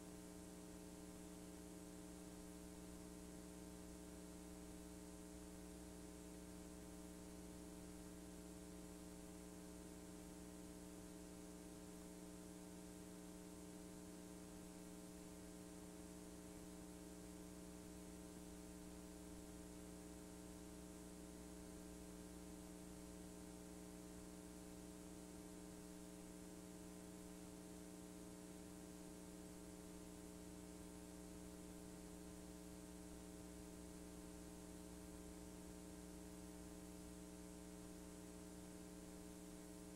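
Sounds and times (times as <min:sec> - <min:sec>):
faint electrical hum with hiss: 0:00.0 - 0:39.9.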